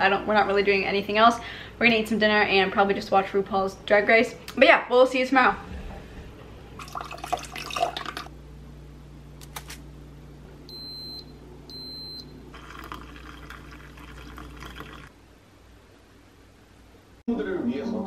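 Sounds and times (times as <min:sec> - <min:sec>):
steady low hum: 0:01.2 - 0:18.0.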